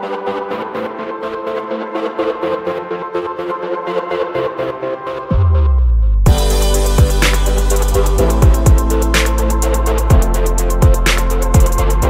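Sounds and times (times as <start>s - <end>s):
electronic music with fast beat: 0.0s - 12.0s.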